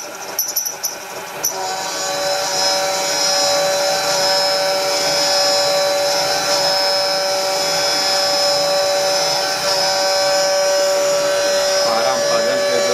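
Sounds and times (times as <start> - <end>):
milling machine cutting whine: 0.0 - 12.9.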